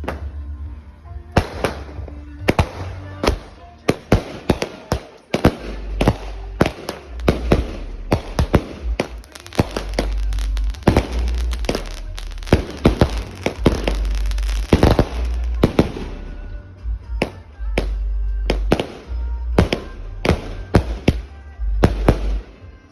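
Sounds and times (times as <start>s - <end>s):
music with heavy bass: 0.0s - 22.9s
firework cake bangs: 1.4s - 22.9s.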